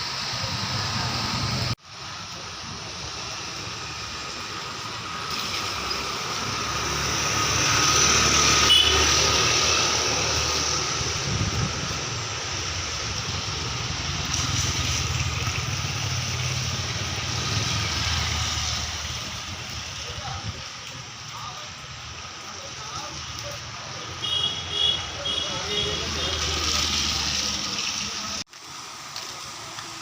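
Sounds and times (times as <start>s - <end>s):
vehicle rushing through water: 0.0s - 30.0s.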